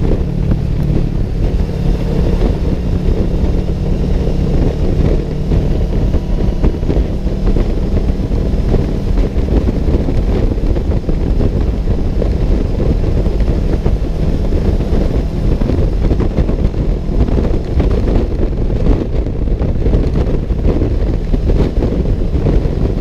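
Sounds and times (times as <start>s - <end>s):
vehicle travelling at speed: 0.0s - 23.0s
wind buffeting microphone: 0.0s - 23.0s.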